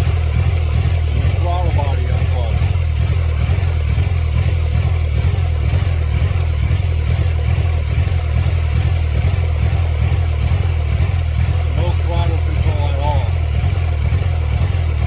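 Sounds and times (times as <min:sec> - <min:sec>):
car engine throbbing unevenly: 0:00.0 - 0:15.0.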